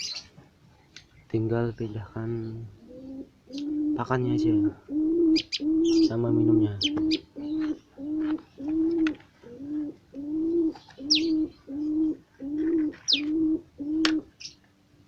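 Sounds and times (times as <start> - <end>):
small birds chirping: 0.0 - 13.4, 14.0 - 14.7
dove cooing: 2.3 - 14.6.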